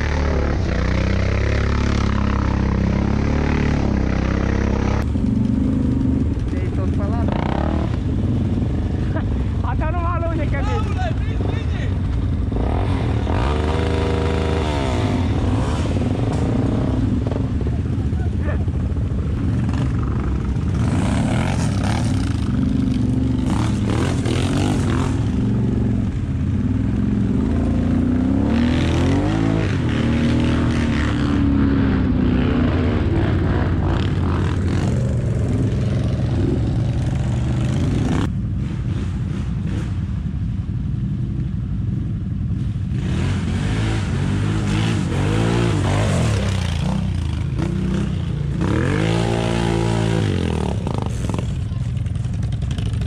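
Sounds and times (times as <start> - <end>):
atv engine revving: 0.0 - 40.0, 42.6 - 53.0.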